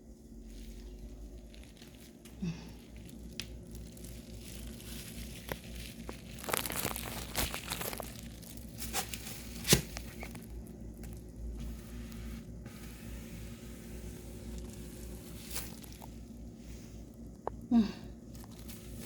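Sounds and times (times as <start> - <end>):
crinkling and rustling: 0.4 - 19.0.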